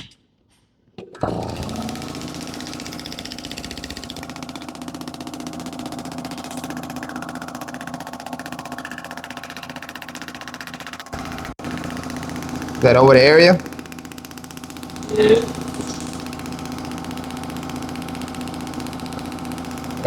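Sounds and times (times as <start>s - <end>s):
device firing rapid pulses: 1.2s - 20.0s
steady hum: 1.2s - 20.0s.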